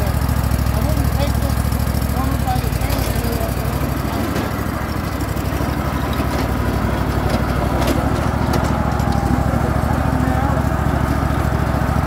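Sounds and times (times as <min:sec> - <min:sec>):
ride-on lawn mower engine: 0:00.0 - 0:12.0.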